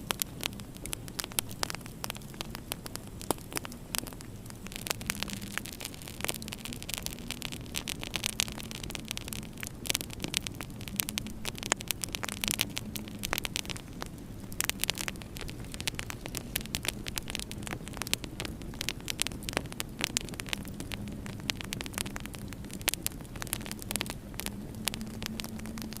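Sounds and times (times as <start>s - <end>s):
steady low hum: 0.0s - 26.0s
wood fire crackling and popping: 0.0s - 26.0s.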